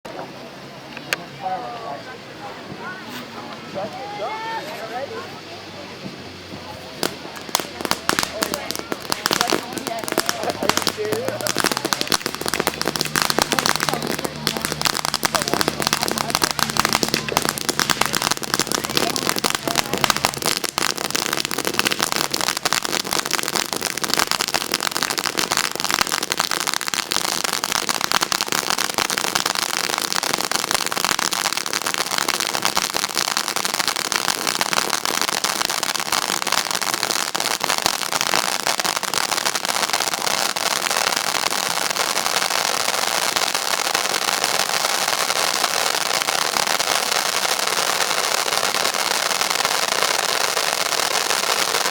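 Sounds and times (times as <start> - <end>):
fireworks popping and crackling: 6.0 - 51.9.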